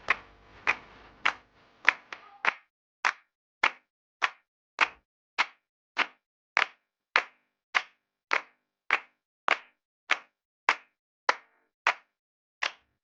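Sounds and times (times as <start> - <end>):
sharp slapping hits: 0.0 - 10.9.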